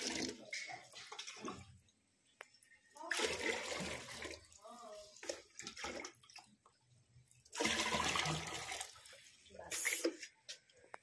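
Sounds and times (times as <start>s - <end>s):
water pouring into pot: 0.0s - 10.0s.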